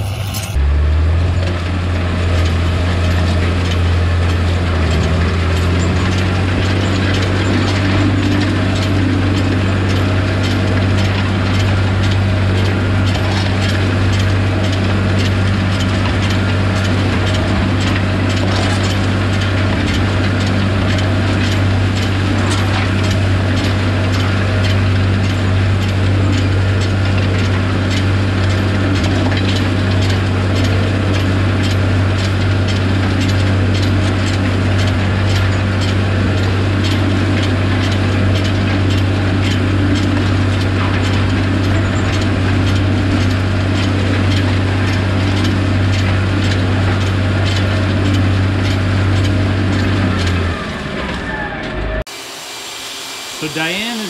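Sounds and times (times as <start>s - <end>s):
tractor drone: 0.0s - 54.0s.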